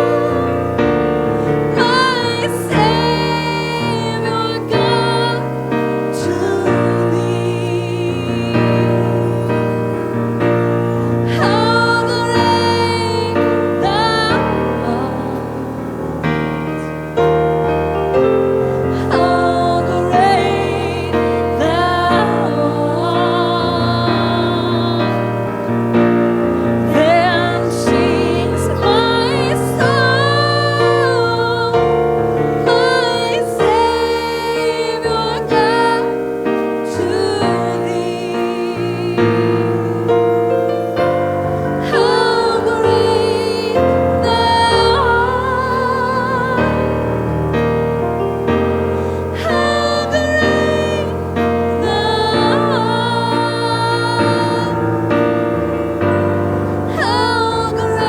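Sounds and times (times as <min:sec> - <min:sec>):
person singing with vibrato: 0:00.0 - 0:58.0
piano and keyboard chords: 0:00.0 - 0:58.0.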